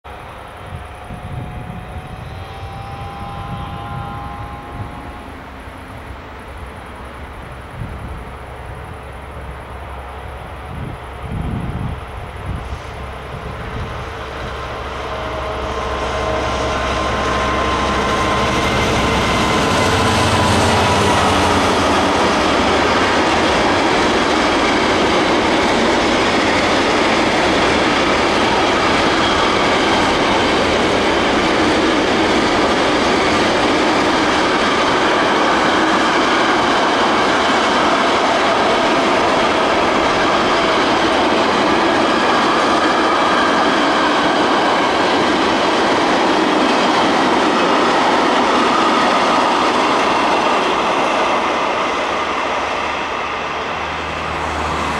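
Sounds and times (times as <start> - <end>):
diesel locomotive engine: 0.0 - 54.9.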